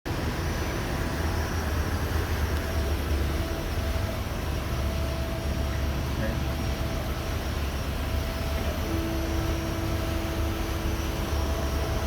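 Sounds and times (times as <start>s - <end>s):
low mechanical rumble: 0.1s - 12.0s.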